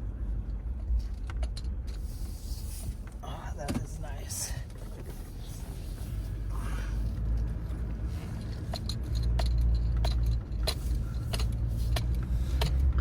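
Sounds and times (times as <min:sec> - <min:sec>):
pickup truck engine rumble: 0:00.0 - 0:13.0.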